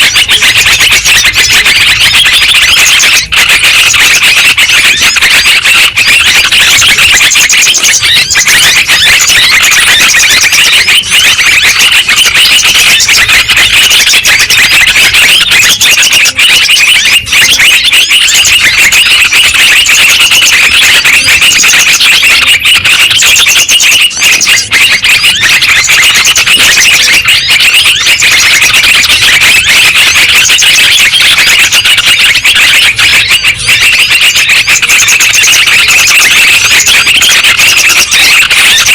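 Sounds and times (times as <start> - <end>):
birds chattering calls: 0.0 - 38.9.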